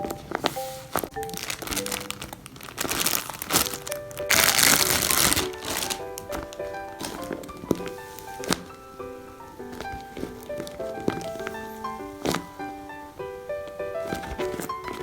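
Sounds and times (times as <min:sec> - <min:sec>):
background music: 0:00.0 - 0:15.0
plastic packaging crinkling: 0:00.0 - 0:15.0.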